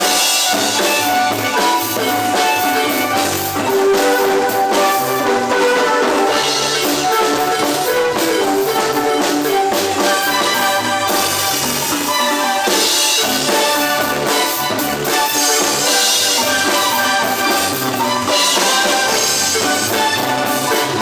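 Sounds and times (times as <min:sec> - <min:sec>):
drums beating: 0:00.0 - 0:21.0
marimba playing: 0:00.0 - 0:21.0.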